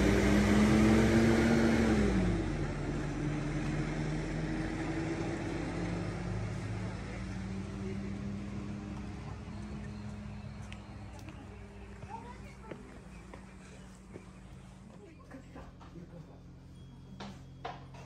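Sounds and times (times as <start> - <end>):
bus engine pulling away: 0.0 - 17.8.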